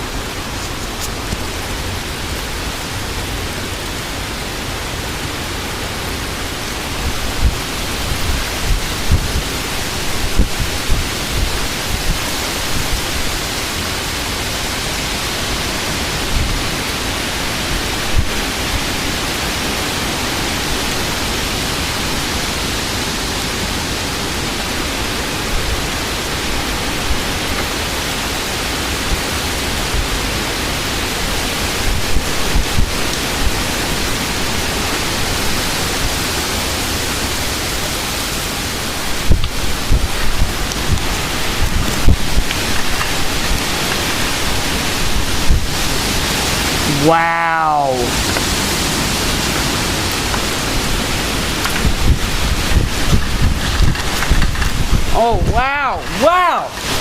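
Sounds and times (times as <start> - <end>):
heavy rain pouring: 0.0 - 57.0
wind buffeting microphone: 6.2 - 22.8, 23.4 - 46.8, 48.1 - 55.7.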